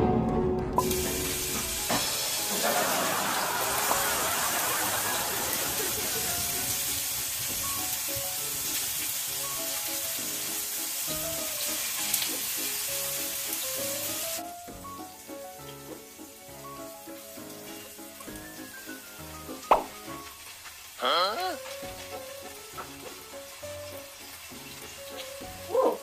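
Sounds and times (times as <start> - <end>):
light background melody: 0.0 - 26.0
vegetables sizzling in oil: 0.8 - 26.0.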